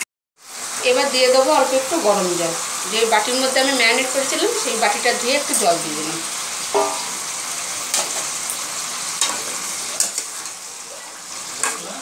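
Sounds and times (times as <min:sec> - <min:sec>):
meat sizzling in a pan: 0:00.4 - 0:12.0.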